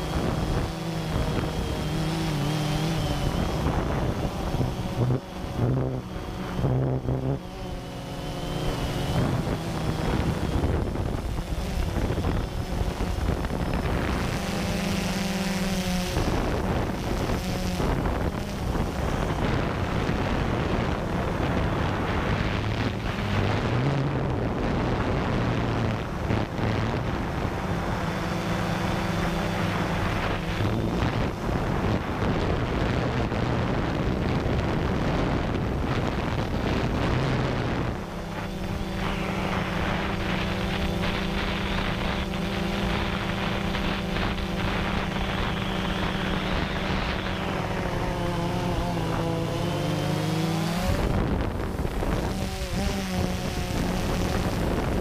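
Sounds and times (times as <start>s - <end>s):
drone propellers humming: 0.0s - 55.0s
wind on microphone: 0.0s - 55.0s.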